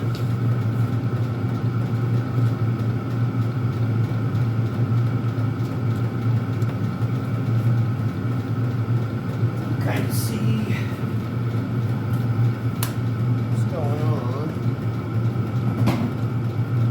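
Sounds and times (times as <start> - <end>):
air heaters humming: 0.0 - 16.9
constant high whine: 0.0 - 16.9.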